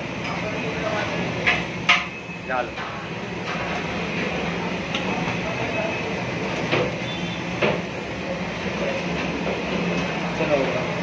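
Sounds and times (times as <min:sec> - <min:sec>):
low rumble of kitchen noise: 0:00.0 - 0:11.0.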